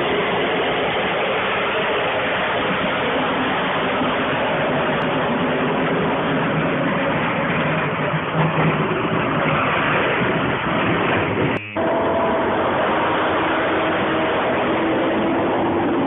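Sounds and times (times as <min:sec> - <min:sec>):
road vehicle engine hum: 0:00.0 - 0:16.0.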